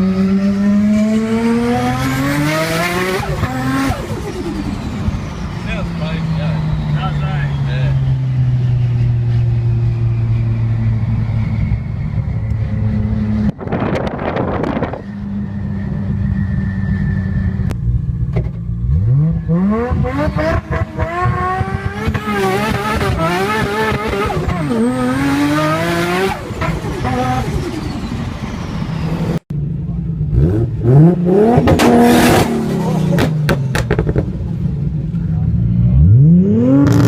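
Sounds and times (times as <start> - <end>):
car engine accelerating through gears: 0.0 - 29.4, 30.2 - 37.0.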